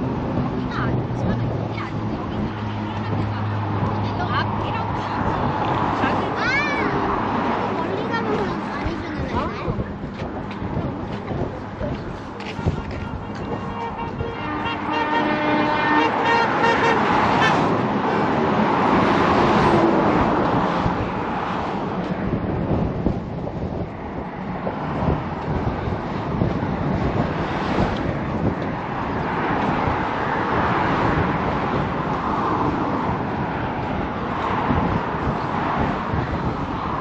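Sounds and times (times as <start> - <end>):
road traffic rushing: 0.0 - 37.0.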